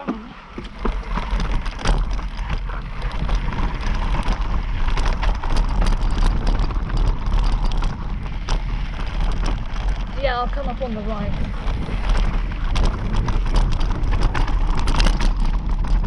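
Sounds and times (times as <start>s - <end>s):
bike rattling: 0.0s - 16.0s
tyres crunching over stones: 0.0s - 16.0s
wind buffeting microphone: 0.1s - 16.0s.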